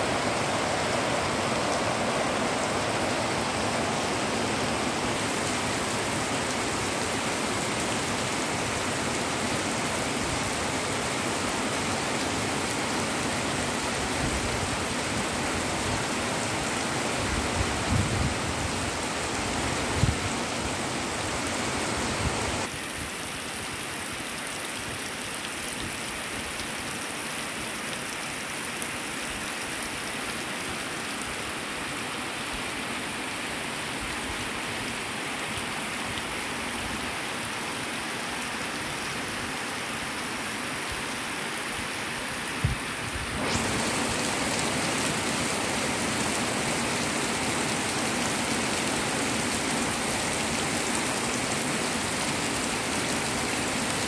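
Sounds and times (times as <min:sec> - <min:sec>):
rain falling on grass: 0:00.0 - 0:54.0.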